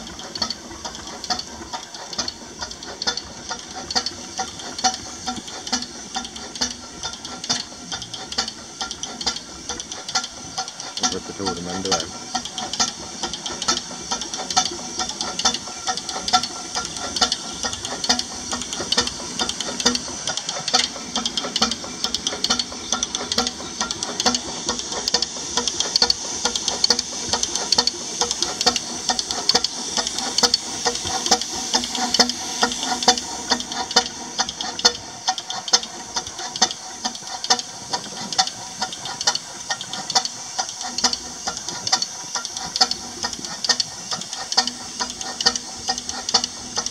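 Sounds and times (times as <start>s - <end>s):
steady steam hiss: 0.0s - 46.9s
steam engine exhaust chuffing: 0.0s - 46.9s.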